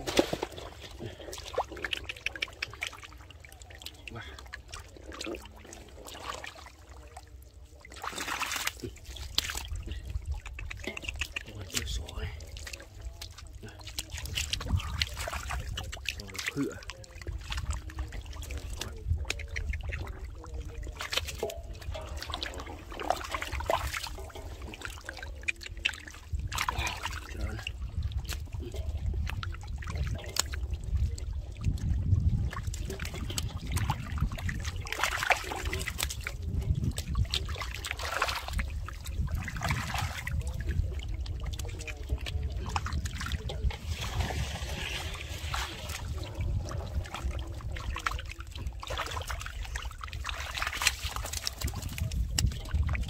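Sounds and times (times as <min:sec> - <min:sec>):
floodwater splashing and sloshing: 0:00.0 - 0:53.0.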